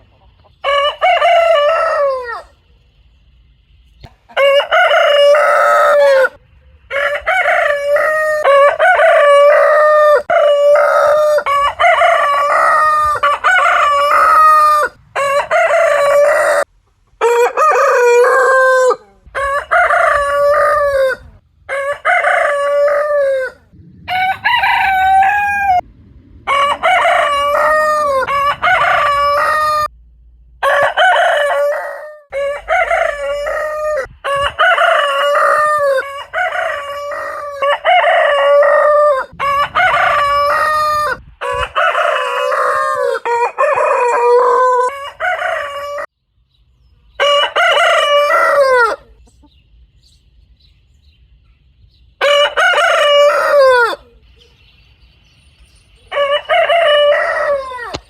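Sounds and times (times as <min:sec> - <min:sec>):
roosters crowing: 0:00.0 - 0:02.7, 0:04.0 - 0:29.9, 0:30.6 - 0:46.1, 0:47.1 - 0:49.4, 0:52.2 - 0:54.6, 0:56.0 - 0:58.0.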